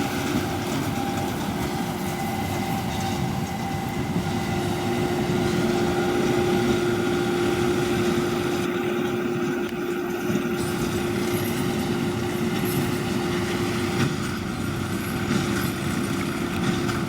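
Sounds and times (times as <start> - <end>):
tractor and baler drone: 0.0 - 17.0.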